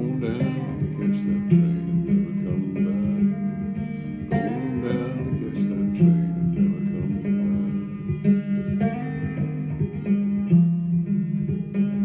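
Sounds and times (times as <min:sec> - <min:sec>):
banjo picking a slow melody: 0:00.0 - 0:12.0.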